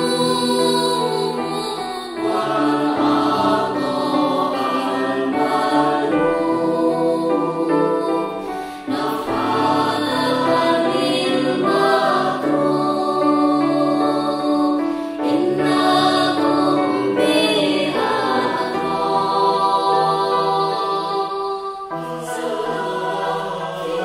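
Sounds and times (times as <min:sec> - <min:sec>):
choir singing devotional song: 0:00.0 - 0:24.0.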